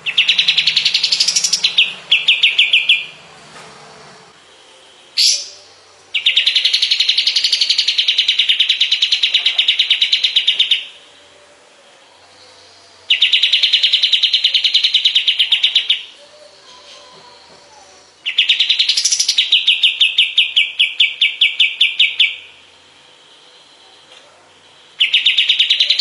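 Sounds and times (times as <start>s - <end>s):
songbird singing fast trills: 0.0s - 3.2s, 5.0s - 11.1s, 12.4s - 17.1s, 18.1s - 23.8s, 24.7s - 26.0s.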